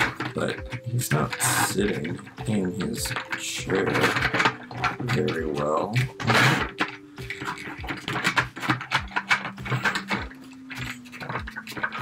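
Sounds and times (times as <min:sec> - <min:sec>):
plastic toy parts clicking: 0:00.0 - 0:12.0.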